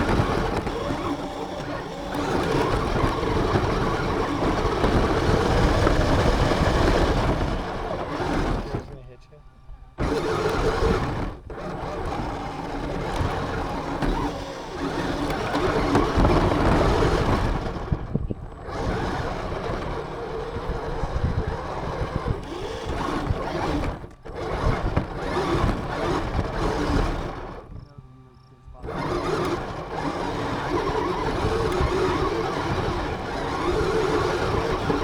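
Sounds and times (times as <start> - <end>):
rc car motor buzzing: 0.0 - 35.0.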